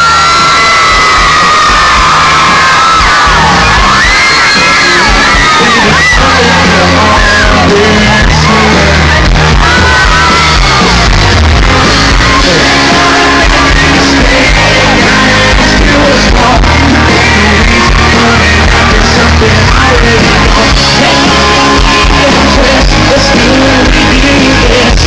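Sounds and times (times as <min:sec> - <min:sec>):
crowd yelling and shouting: 0:00.0 - 0:25.0
live country band playing: 0:00.0 - 0:25.0
man singing lead vocals: 0:02.4 - 0:25.0.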